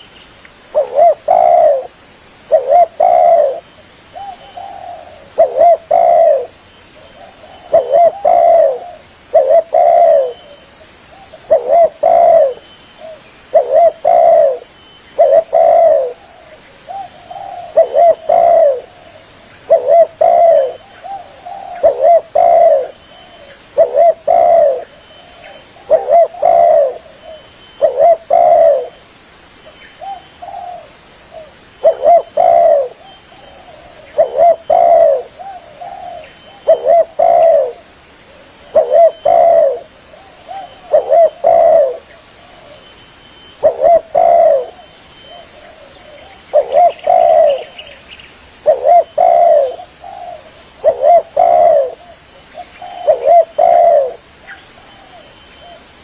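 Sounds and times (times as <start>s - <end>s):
dove cooing: 0.7s - 29.0s, 30.0s - 48.0s, 48.6s - 56.0s.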